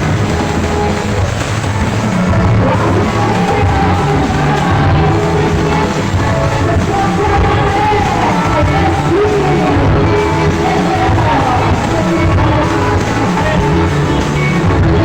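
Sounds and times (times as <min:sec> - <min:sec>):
heavy bass beat: 0:00.0 - 0:15.0
live band playing dance music: 0:00.0 - 0:15.0
person singing: 0:02.0 - 0:15.0.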